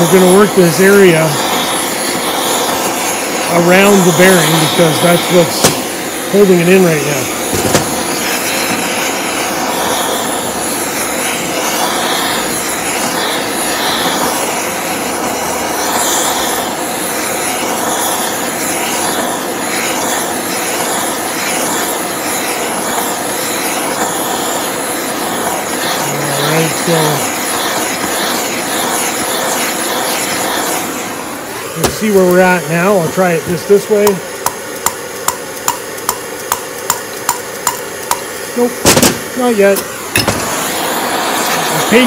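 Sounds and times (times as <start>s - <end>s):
gas torch hissing: 0.0s - 42.0s.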